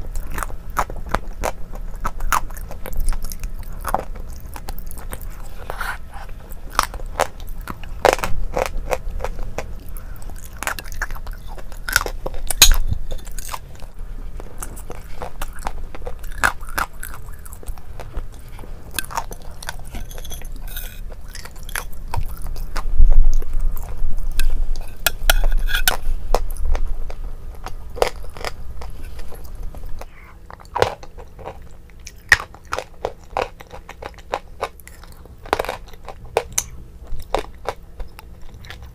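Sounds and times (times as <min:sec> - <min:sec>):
wet chewing and crunching: 0:00.0 - 0:38.9.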